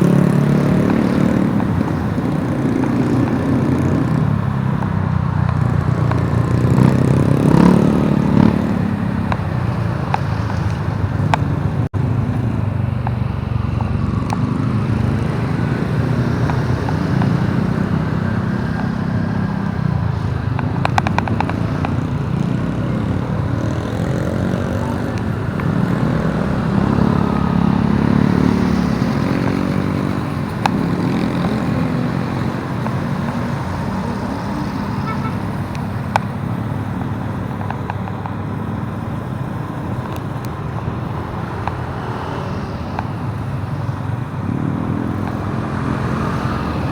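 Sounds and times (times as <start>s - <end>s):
motorcycle engine revving: 0.0s - 46.9s
road and wind noise: 0.0s - 46.9s.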